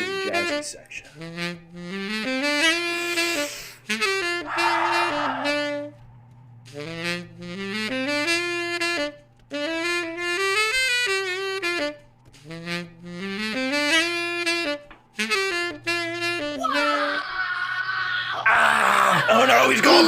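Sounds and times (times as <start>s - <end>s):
saxophone playing jazzy melody: 0.0s - 6.0s, 6.7s - 17.2s
steady low hum: 0.0s - 16.6s.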